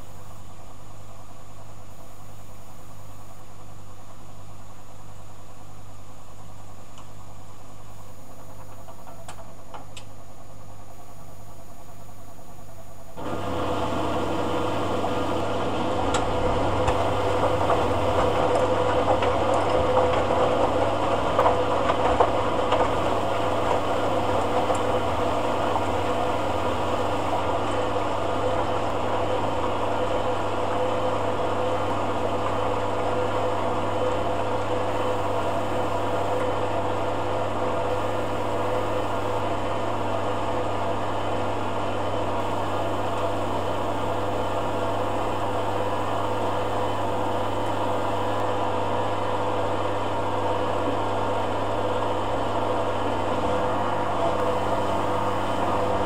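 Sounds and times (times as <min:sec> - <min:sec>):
washer-dryer humming: 0:00.0 - 0:56.0.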